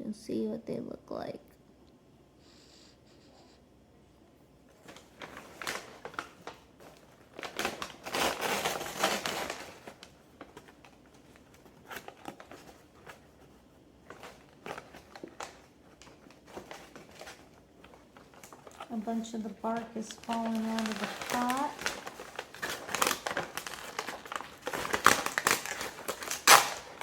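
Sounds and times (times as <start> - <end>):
packaging crinkling and rustling: 4.8 - 27.0.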